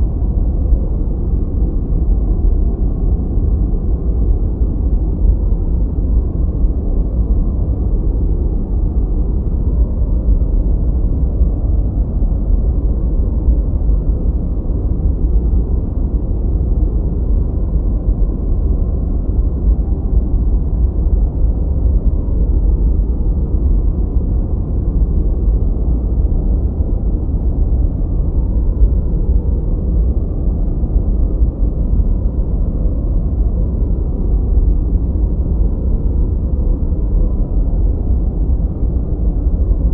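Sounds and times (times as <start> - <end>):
deep low-pitched steady noise: 0.0 - 39.9.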